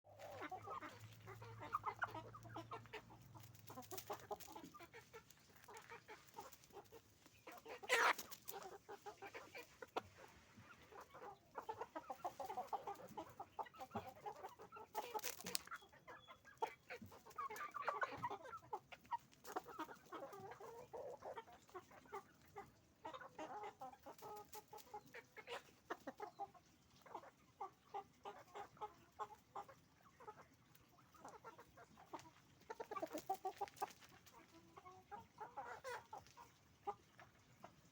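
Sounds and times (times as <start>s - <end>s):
chickens clucking: 0.0s - 37.9s.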